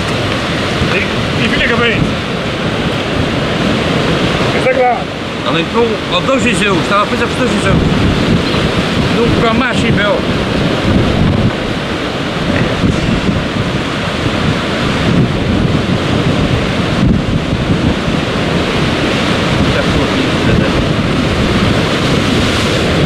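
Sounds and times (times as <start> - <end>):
sea surf against rocks: 0.0 - 23.0
wind buffeting microphone: 0.0 - 23.0.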